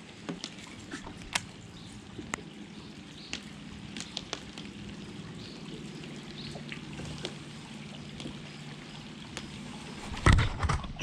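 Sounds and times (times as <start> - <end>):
rain pattering on river: 0.0 - 10.2.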